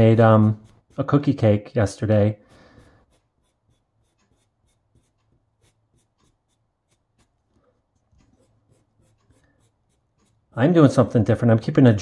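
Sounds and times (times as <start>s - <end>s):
pencil scratching on paper: 0.0s - 11.1s.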